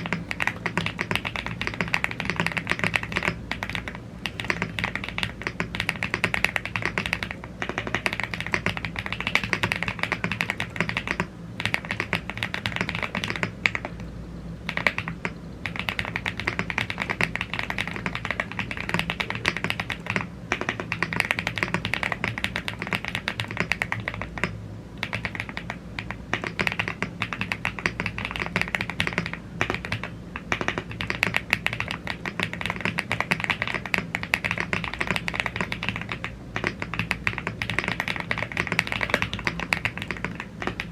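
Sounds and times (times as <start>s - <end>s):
fast typing on mechanical keyboard: 0.0s - 14.0s, 14.6s - 40.9s
steady low hum: 0.0s - 40.9s.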